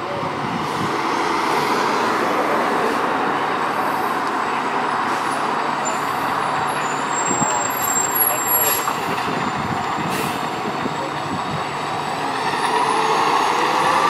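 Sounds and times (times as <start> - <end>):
fire engine driving by: 0.0 - 14.0
road noise: 0.0 - 14.0.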